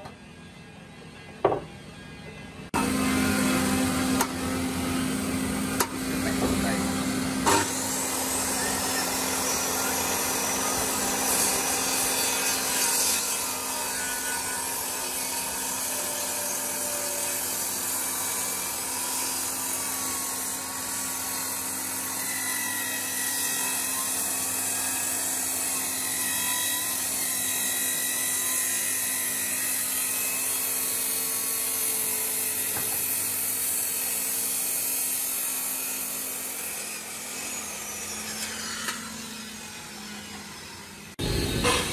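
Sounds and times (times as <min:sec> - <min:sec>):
angle grinder grinding wood: 0:02.8 - 0:41.9.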